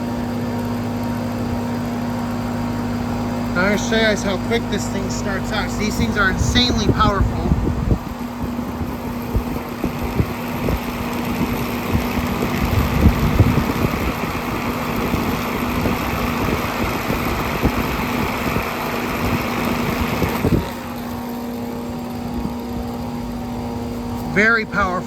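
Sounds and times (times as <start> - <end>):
air conditioner unit humming: 0.0 - 25.0
fan rushing: 0.0 - 25.0.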